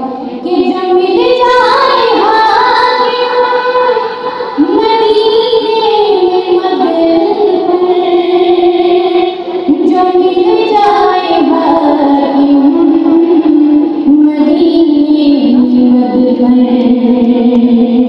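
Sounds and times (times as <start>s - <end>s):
woman singing devotional song: 0.0s - 18.0s.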